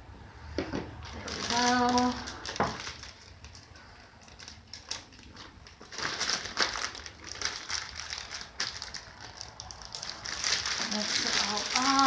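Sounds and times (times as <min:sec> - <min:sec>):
crinkling and soft clicks: 0:01.0 - 0:12.0.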